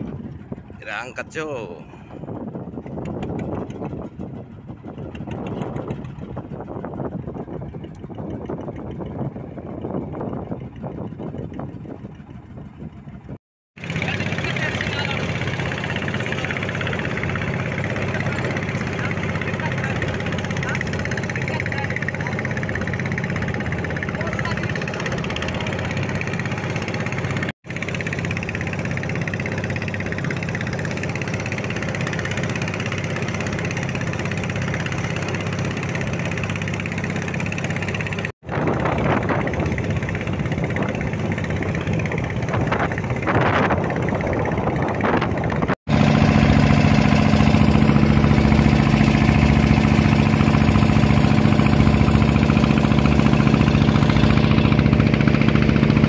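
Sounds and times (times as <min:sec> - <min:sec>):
boat engine running: 0:00.0 - 0:56.0
water washing along hull: 0:00.0 - 0:56.0.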